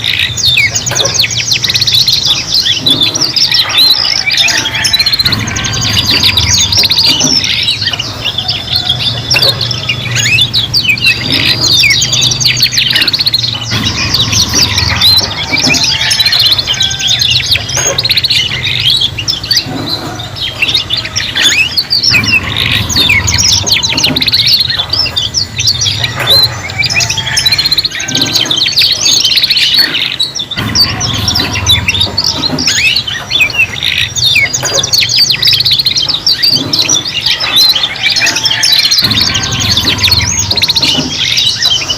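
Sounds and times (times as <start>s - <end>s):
canaries trilling and chirping: 0.0s - 41.9s.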